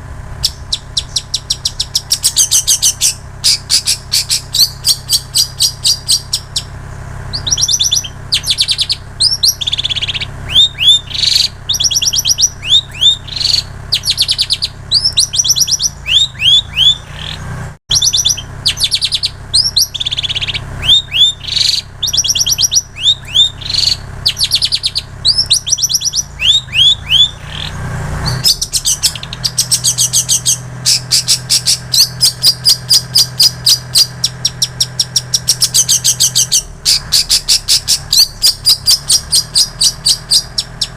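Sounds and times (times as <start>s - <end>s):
bird singing rapid high trills: 0.0s - 40.9s
low steady hum: 0.0s - 40.9s.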